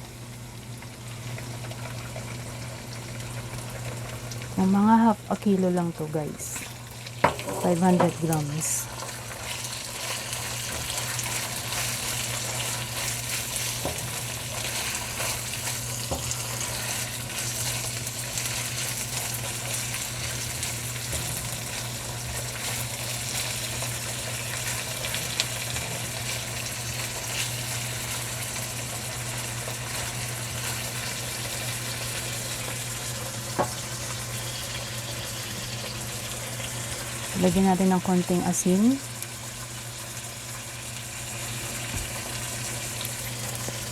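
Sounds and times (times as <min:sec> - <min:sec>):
food sizzling in oil: 0:00.5 - 0:43.9.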